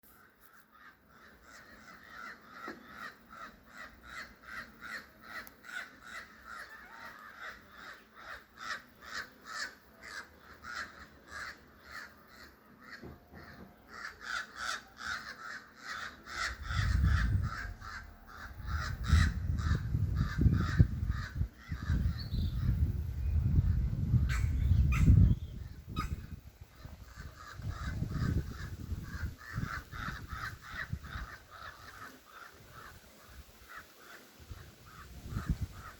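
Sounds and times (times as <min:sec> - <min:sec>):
bird harsh calls: 0:00.1 - 0:35.9.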